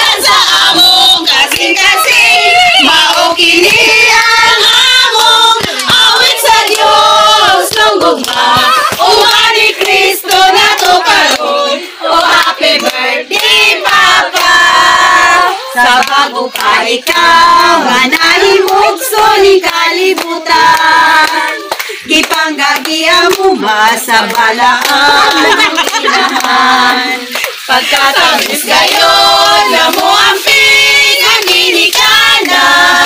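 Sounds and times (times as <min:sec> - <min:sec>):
group singing: 0:00.0 - 0:33.0
hands clapping: 0:00.2 - 0:07.0, 0:07.6 - 0:11.6, 0:12.2 - 0:14.9, 0:15.8 - 0:33.0.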